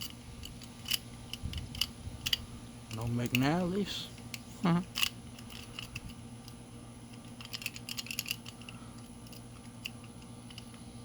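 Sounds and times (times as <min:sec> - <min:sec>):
lock pick clicking in padlock: 0:00.0 - 0:03.4, 0:04.8 - 0:10.7.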